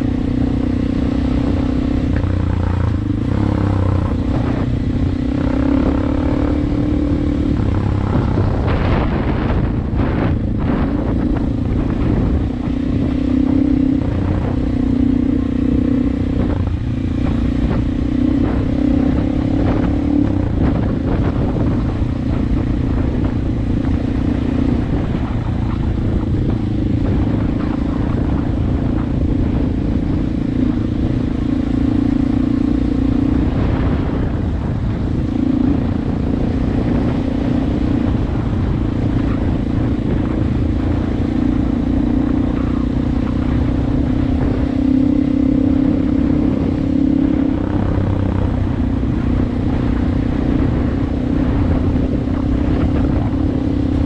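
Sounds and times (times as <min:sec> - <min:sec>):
dirt bike engine running: 0:00.0 - 0:54.0
low rumble: 0:00.0 - 0:54.0.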